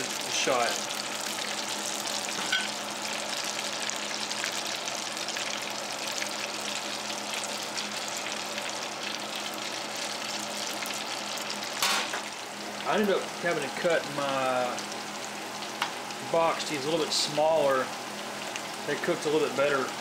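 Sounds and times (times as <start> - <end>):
patties sizzling in hot oil: 0.0 - 20.0.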